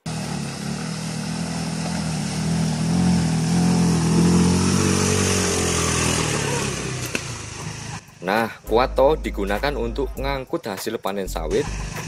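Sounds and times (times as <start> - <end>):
buggy engine running under load: 0.0 - 10.4, 11.3 - 12.0.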